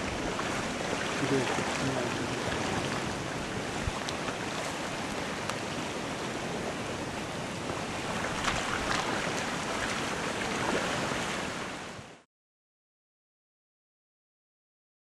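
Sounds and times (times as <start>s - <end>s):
rushing water: 0.0s - 12.2s.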